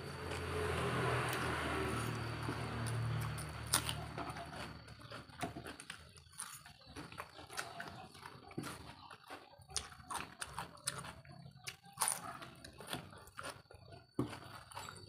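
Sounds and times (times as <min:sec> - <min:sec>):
people chewing and lip-smacking: 0:02.0 - 0:15.0.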